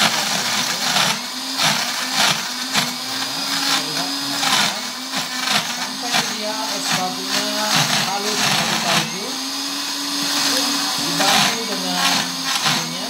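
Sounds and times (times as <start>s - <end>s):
blender crushing ice: 0.0s - 13.0s.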